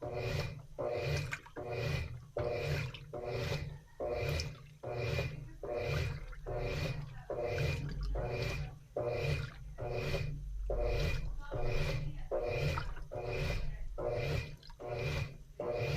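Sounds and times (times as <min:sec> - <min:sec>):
washing machine agitating: 0:00.0 - 0:15.9
water sloshing in tub: 0:00.0 - 0:15.9.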